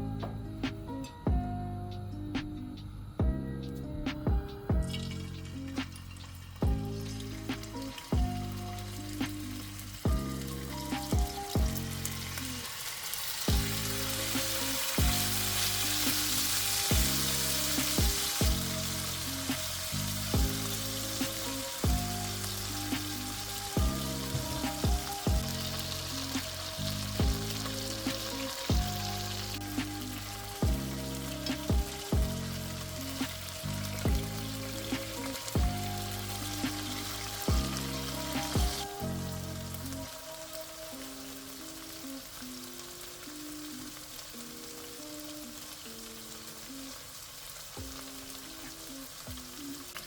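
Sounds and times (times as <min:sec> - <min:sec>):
background music with beat: 0:00.0 - 0:50.0
food sizzling in oil: 0:04.7 - 0:50.0.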